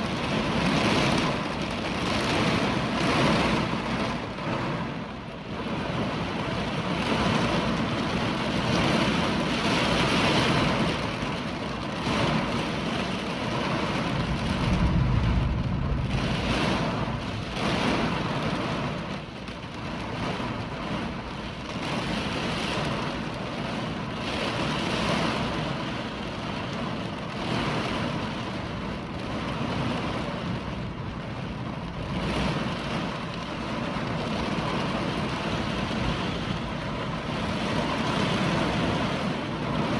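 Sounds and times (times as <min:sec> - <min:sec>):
gusting wind: 0:00.0 - 0:39.9
heavy rain: 0:00.0 - 0:39.9.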